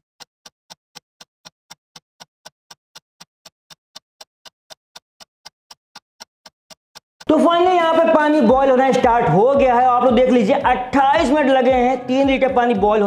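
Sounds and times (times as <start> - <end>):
clock ticking: 0.0 - 13.0.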